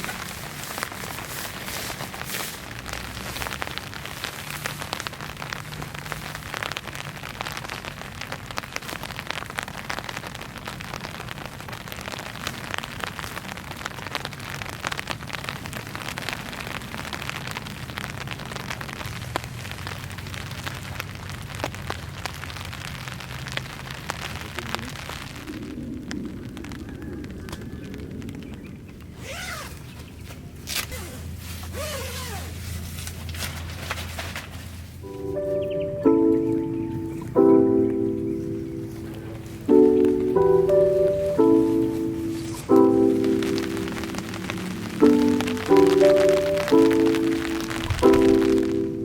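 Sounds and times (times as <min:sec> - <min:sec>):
rain falling: 0:00.0 - 0:49.0
raindrops hitting a surface: 0:00.0 - 0:49.0.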